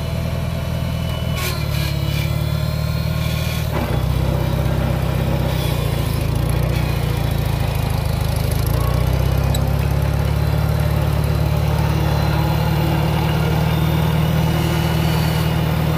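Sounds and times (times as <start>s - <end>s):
tractor engine running: 1.7s - 15.9s.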